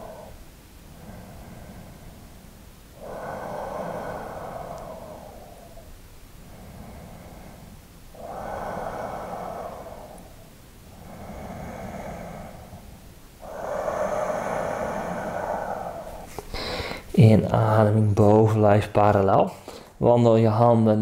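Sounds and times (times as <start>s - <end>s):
man breathing deeply: 0.0s - 17.2s, 19.6s - 20.0s.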